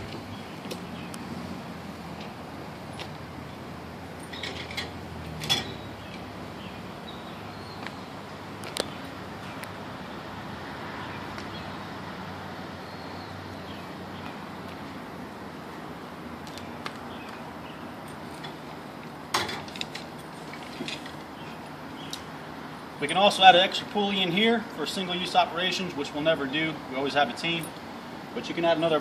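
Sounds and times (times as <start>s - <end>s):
low outdoor background hum: 0.0s - 29.0s.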